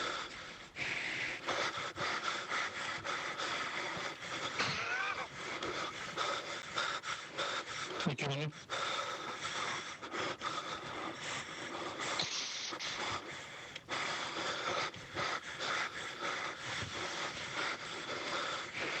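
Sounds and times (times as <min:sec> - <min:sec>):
person breathing heavily: 0:00.0 - 0:19.0.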